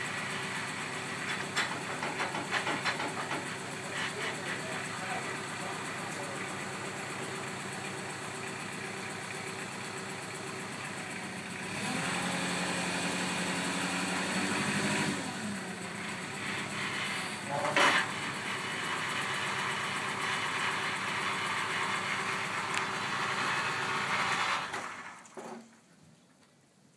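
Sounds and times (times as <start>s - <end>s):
tractor diesel engine running: 0.0s - 25.3s.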